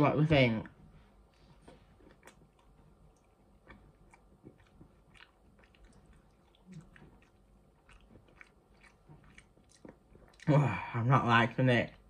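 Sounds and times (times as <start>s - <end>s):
chewing food: 0.6s - 12.0s.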